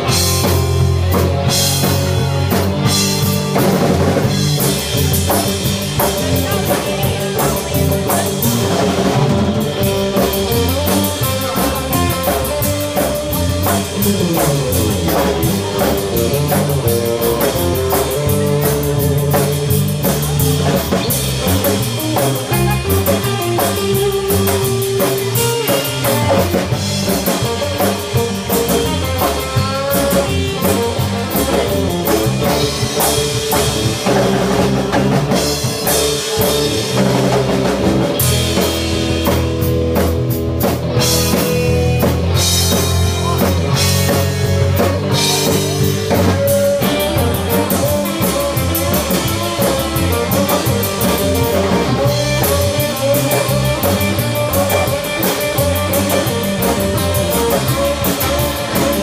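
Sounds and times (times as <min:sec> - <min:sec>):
bass line: 0:00.0 - 0:59.0
drum kit: 0:00.0 - 0:59.0
electric guitars: 0:00.0 - 0:59.0.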